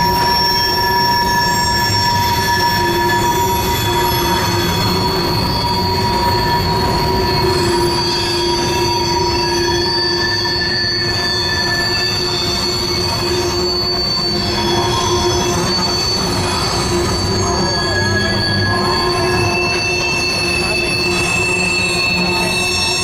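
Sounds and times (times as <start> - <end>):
train wheels squealing: 0.0 - 23.0
wheels rumbling on rail: 0.0 - 23.0.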